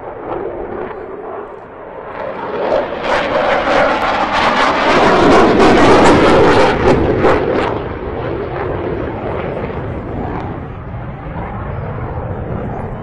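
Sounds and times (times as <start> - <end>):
jet afterburner roar: 0.0 - 13.0.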